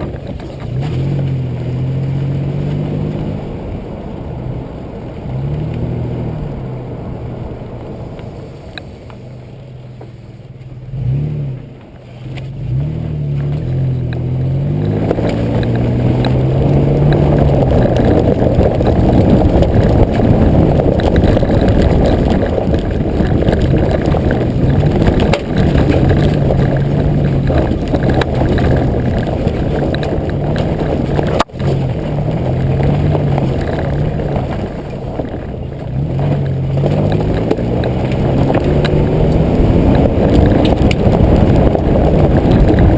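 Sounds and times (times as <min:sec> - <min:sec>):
car engine revving off-road: 0:00.0 - 0:42.9
rough rumble of tyres: 0:00.0 - 0:42.9.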